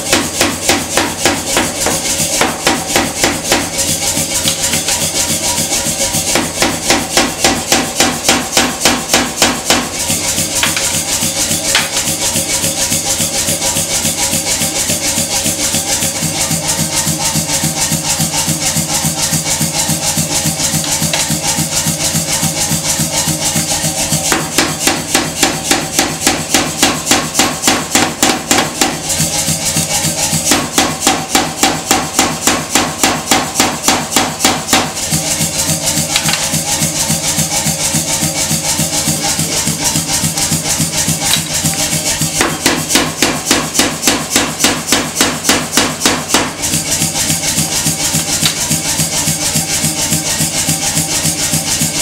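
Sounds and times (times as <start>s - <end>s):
background music with shaker: 1.2s - 7.7s, 8.8s - 52.0s.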